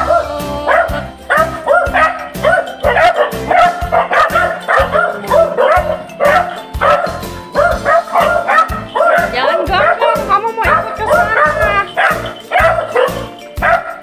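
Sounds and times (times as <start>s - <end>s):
background music with steady beat: 0.0s - 14.0s
dogs barking: 0.0s - 14.0s.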